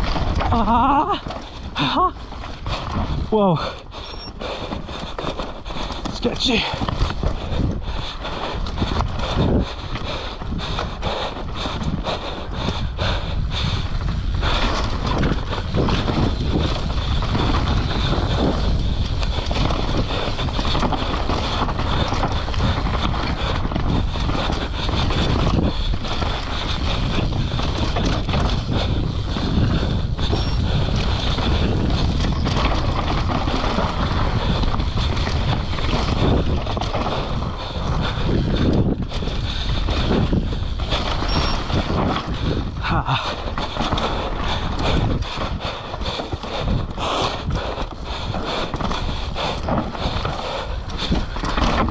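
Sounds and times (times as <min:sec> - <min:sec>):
tyres rolling over dirt and rocks: 0:00.0 - 0:03.3, 0:04.1 - 0:07.8, 0:14.6 - 0:51.9
bike knocking and rattling: 0:00.0 - 0:51.9
wind buffeting microphone: 0:00.0 - 0:51.9.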